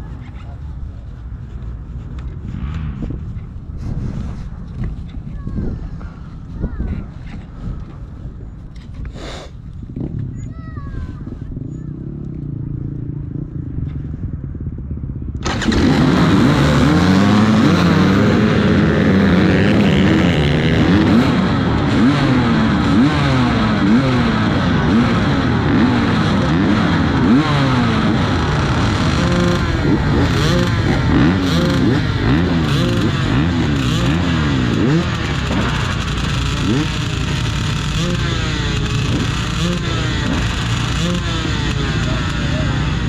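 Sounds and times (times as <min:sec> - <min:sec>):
off-road motorcycles revving: 0:00.0 - 0:43.0.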